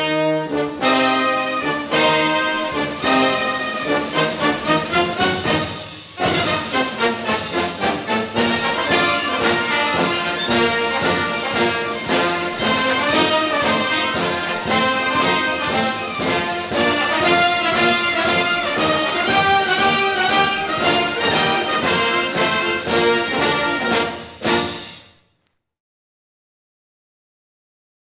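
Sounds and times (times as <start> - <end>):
epic orchestral music with brass: 0.0 - 25.3
steady percussion beat: 0.5 - 25.0.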